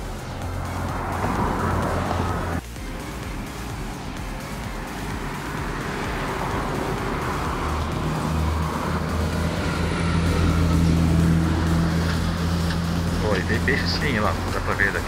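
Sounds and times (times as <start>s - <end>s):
car passing: 0.0s - 15.0s
heavy vehicle engine drone: 0.0s - 15.0s
road traffic rumble: 0.0s - 15.0s.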